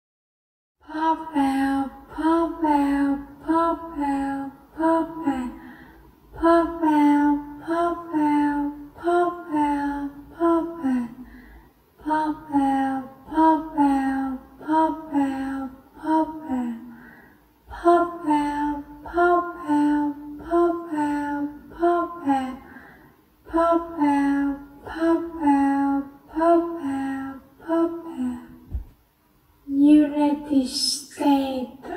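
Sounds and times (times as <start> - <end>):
person repeating words in sing-song: 0.8 - 11.4, 12.0 - 17.1, 17.7 - 22.8, 23.4 - 28.7, 29.7 - 31.9.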